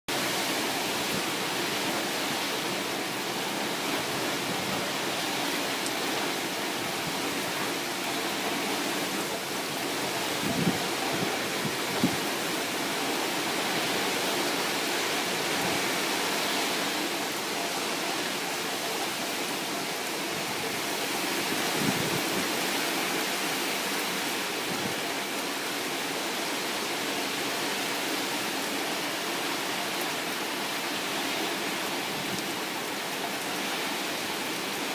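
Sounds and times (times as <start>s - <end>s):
heavy rain pouring: 0.1s - 34.9s.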